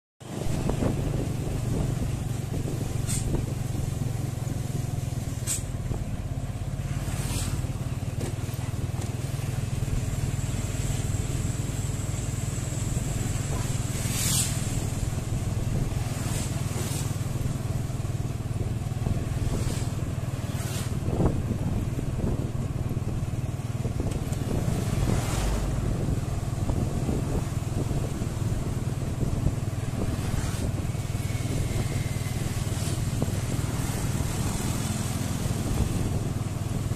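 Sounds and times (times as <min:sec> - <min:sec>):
engine drone: 0:00.2 - 0:36.9
road and wind noise: 0:00.2 - 0:36.9.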